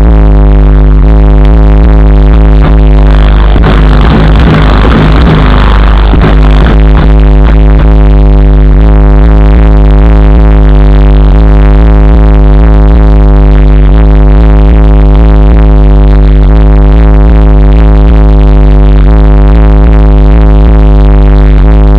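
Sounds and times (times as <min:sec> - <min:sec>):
bass-heavy music through car speakers: 0:00.0 - 0:21.9.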